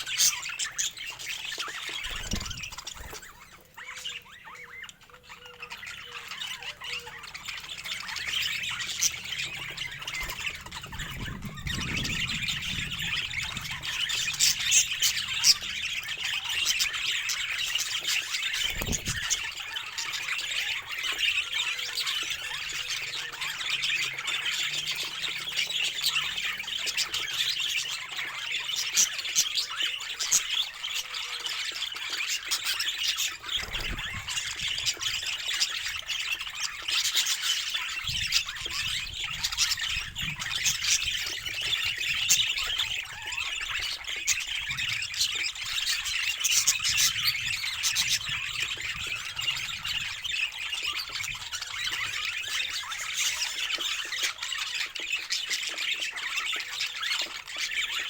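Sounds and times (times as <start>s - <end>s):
budgerigars chattering and squawking: 0.0s - 58.0s.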